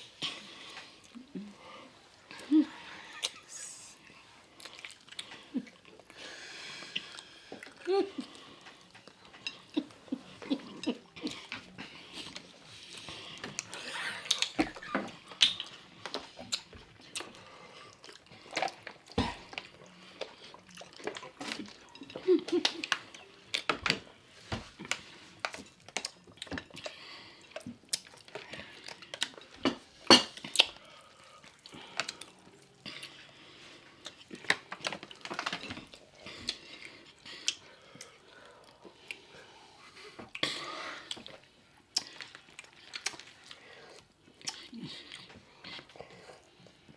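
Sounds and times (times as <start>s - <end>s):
wet chewing and mouth smacking: 4.1s - 24.1s, 24.8s - 33.4s, 34.0s - 39.4s, 40.0s - 46.9s.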